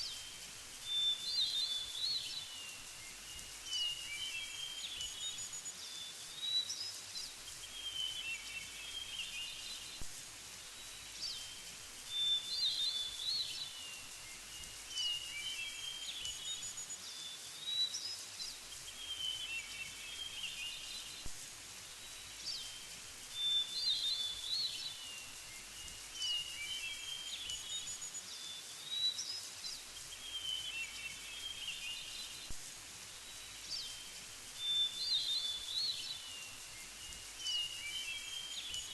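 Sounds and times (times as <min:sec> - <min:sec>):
faint outdoor hiss: 0:00.0 - 0:38.9.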